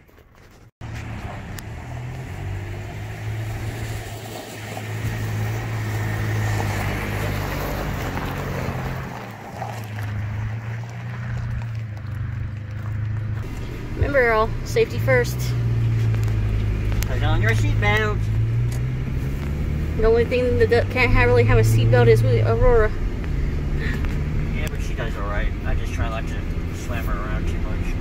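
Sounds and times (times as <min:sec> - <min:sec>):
car engine droning: 0:00.1 - 0:28.0.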